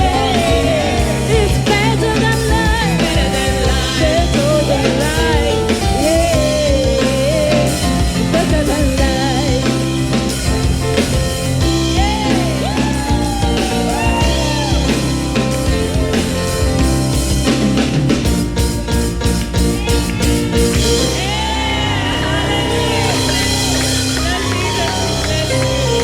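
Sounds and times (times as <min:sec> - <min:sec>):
worship song played by band: 0:00.0 - 0:26.0.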